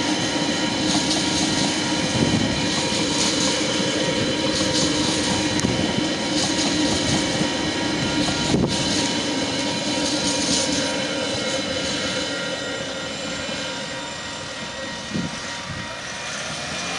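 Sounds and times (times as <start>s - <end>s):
freight wagons rumbling over track: 0.0s - 16.9s.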